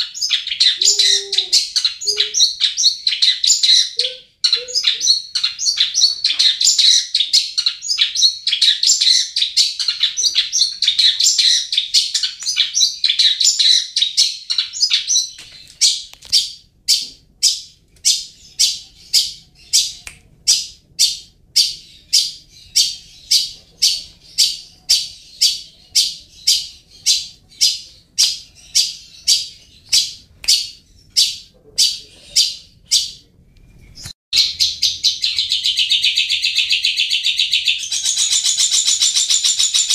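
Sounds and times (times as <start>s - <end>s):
bird chattering warble: 0.0s - 33.2s, 34.4s - 39.9s.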